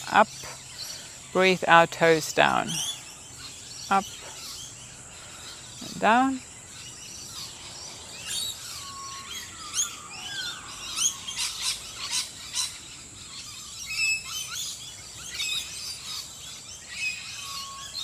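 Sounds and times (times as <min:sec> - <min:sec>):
birds chirping and trilling: 0:00.0 - 0:18.0.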